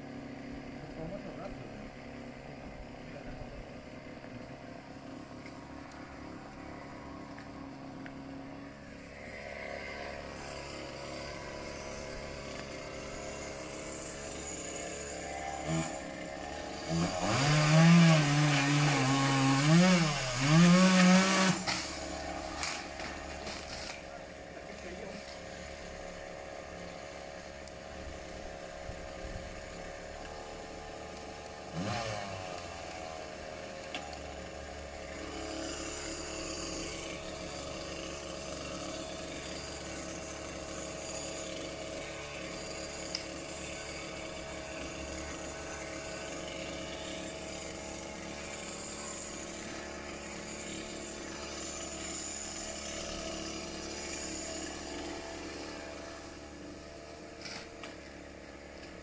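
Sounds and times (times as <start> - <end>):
chainsaw engine running: 0.0 - 59.0
chainsaw revving: 0.0 - 59.0.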